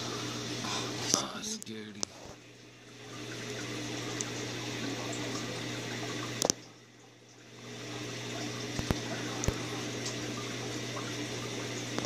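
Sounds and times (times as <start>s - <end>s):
low pump hum: 0.0s - 12.0s.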